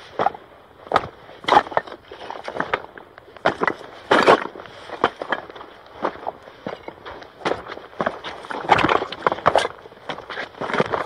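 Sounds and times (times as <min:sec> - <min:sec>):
footsteps crunching on loose stones: 0:00.0 - 0:11.0.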